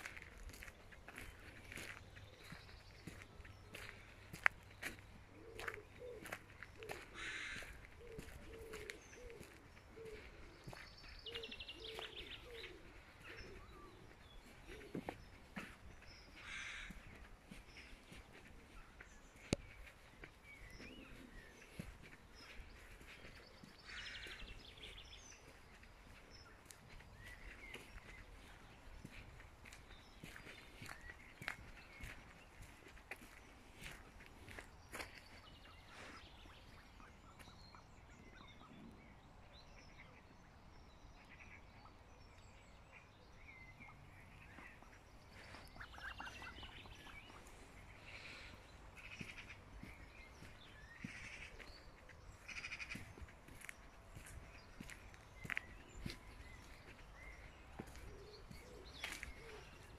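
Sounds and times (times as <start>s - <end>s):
footsteps on earth path: 0.0s - 41.6s, 42.2s - 59.9s
small birds calling: 0.0s - 59.9s.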